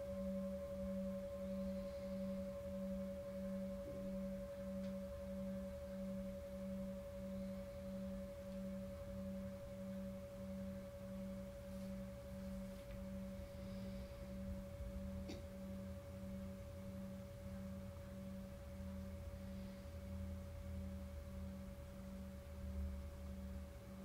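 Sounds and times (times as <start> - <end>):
sustained pure tone drone: 0.0 - 24.0.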